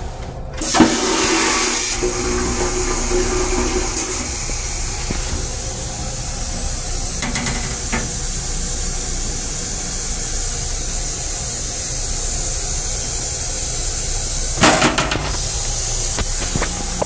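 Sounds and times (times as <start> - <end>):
steady hissing rumble: 0.0 - 17.0.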